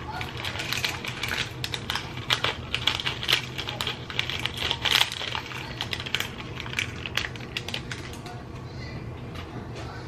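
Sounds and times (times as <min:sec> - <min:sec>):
plastic packet crinkling: 0:00.0 - 0:08.4.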